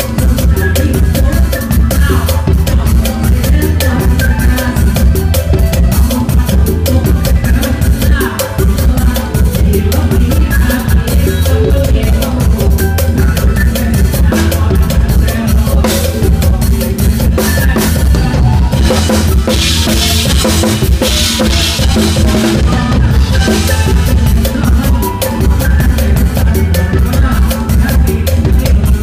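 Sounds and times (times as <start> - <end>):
band playing: 0.0 - 29.0
bass: 0.0 - 29.0.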